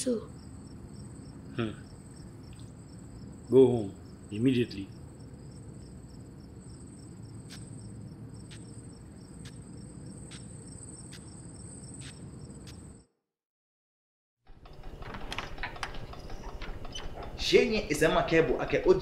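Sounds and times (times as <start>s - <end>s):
crickets chirring: 0.0s - 13.2s, 14.5s - 19.0s.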